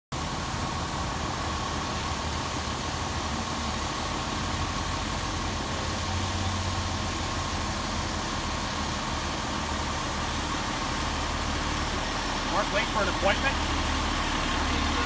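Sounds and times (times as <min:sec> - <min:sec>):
diesel engine running: 0:00.1 - 0:15.0.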